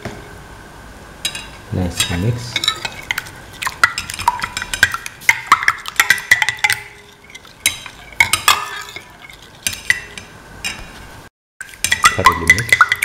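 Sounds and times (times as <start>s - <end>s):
metal spoon stirring in bowl: 1.2s - 11.0s, 11.6s - 13.0s.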